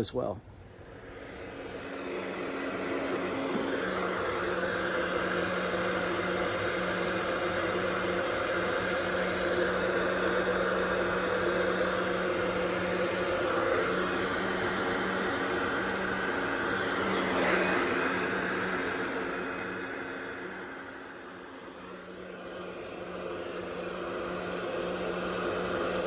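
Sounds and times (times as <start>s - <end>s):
heat gun fan hum and blowing air: 0.0s - 26.0s.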